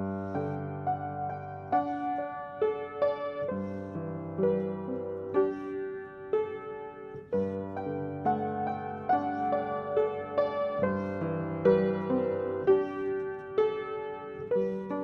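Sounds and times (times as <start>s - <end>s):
slow piano playing: 0.0s - 15.0s.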